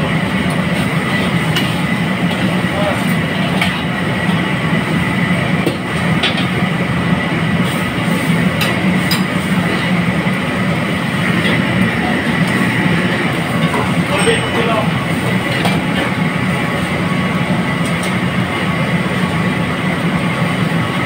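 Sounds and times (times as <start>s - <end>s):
gas burner rushing: 0.0s - 21.0s.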